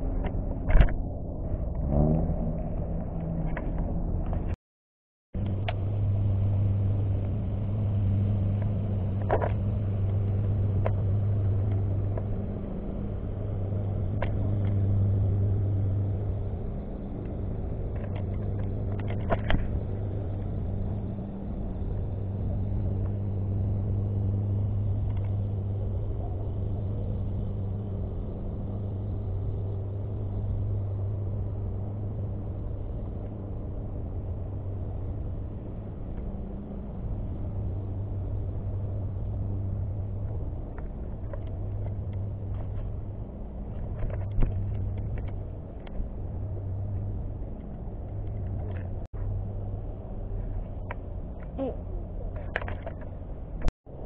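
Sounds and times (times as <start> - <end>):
low engine drone: 0.0 - 4.6, 5.4 - 54.0.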